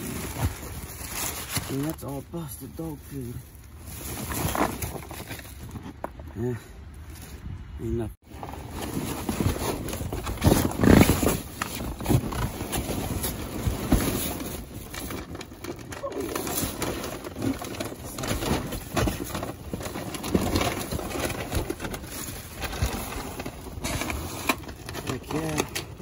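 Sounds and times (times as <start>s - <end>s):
cardboard and bubble wrap crunching: 0.0s - 6.0s, 8.2s - 26.0s.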